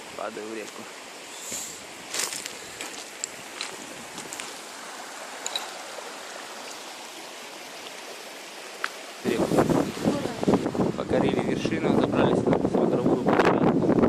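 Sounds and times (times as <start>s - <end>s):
river flowing over rocks: 0.0s - 11.5s.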